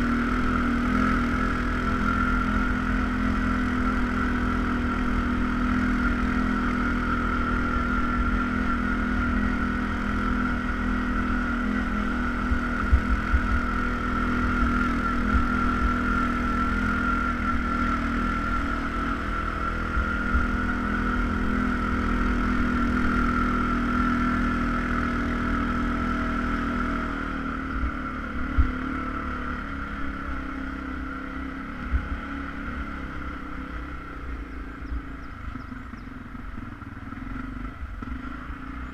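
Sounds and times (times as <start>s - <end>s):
atv engine rumble: 0.0s - 38.9s.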